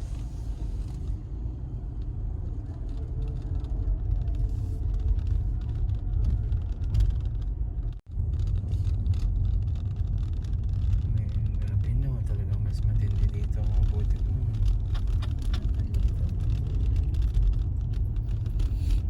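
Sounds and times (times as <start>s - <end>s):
car driving rumble from inside: 0.0s - 19.0s.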